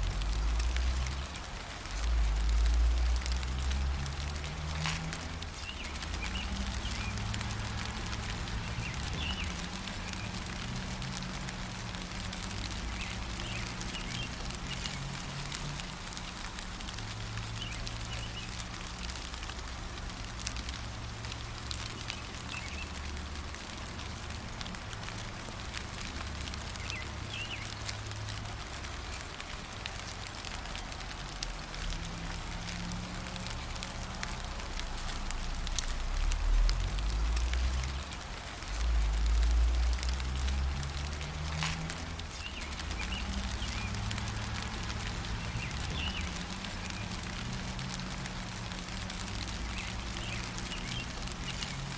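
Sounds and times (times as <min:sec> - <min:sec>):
rain drops ticking: 0:00.0 - 0:51.9.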